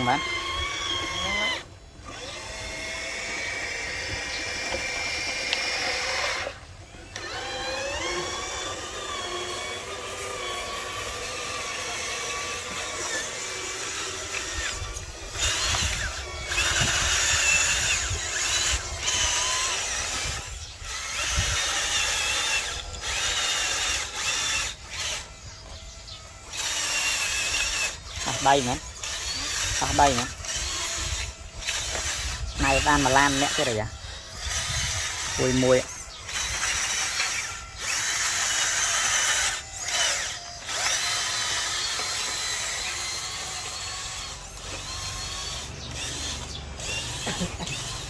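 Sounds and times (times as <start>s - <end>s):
small electric motors whining: 0.0s - 48.0s.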